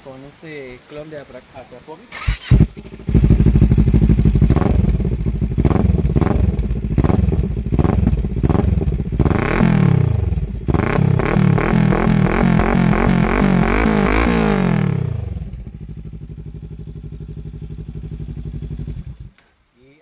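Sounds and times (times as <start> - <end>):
motorcycle engine starting and revving: 2.1 - 19.4.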